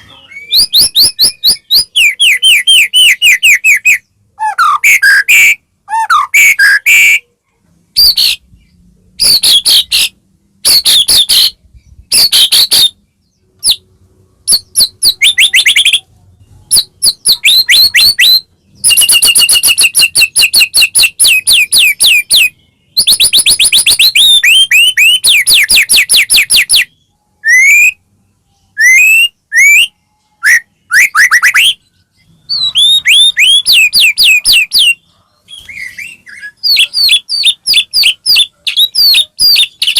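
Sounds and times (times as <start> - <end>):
bird whistles and trills: 0.0 - 7.3, 8.0 - 13.0, 13.6 - 39.9.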